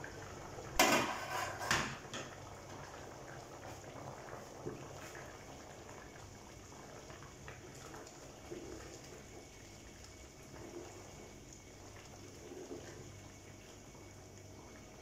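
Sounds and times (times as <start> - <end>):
thick stew bubbling: 0.0 - 15.0.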